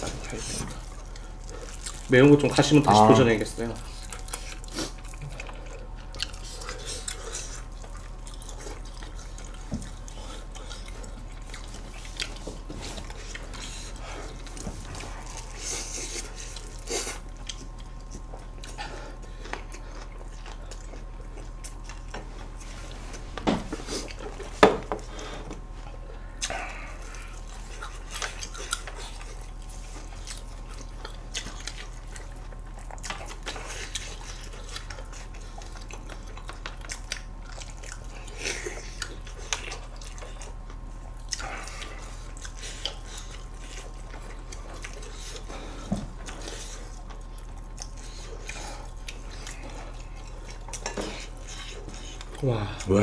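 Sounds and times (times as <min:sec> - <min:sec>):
person chewing: 0:00.0 - 0:53.0
steady low hum: 0:00.0 - 0:53.0.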